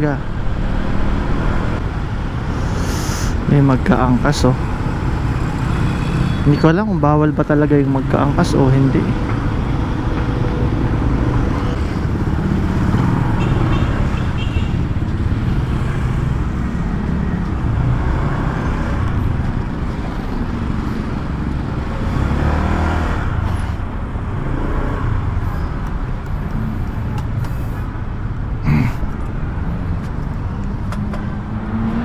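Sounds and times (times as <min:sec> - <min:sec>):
passing vehicles: 0:00.0 - 0:32.0.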